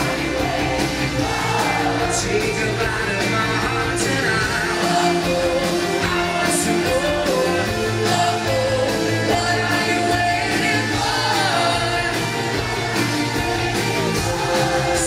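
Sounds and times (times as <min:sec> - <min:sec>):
live rock band playing: 0:00.0 - 0:15.0
man singing lead vocals: 0:00.0 - 0:15.0.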